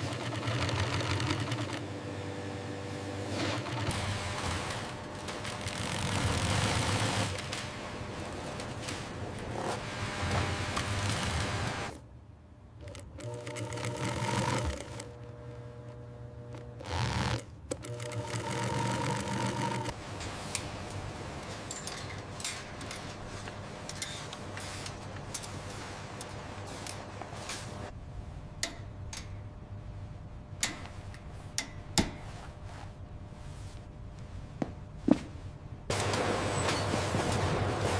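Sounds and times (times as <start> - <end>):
workshop machinery running: 0.0 - 12.0, 12.8 - 32.4, 35.9 - 37.9.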